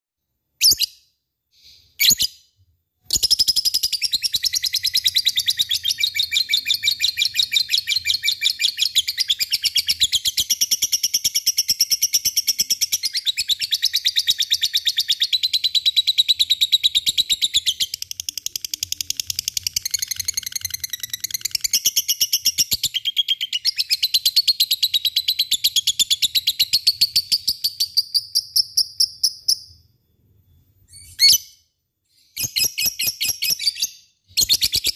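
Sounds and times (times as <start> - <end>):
short bird chirps: 0.6 - 34.9.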